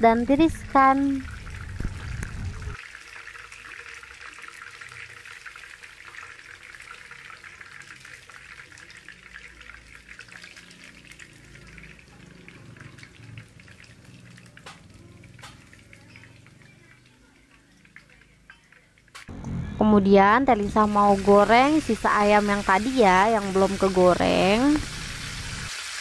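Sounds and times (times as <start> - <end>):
hot oil sizzling and crackling: 0.1 - 19.3, 20.5 - 26.0.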